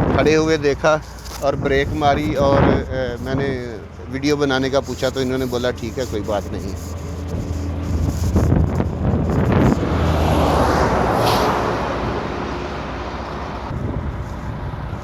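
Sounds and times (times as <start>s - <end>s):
low engine hum: 0.0s - 15.0s
vehicle passing: 0.0s - 15.0s
wind on microphone: 0.0s - 15.0s.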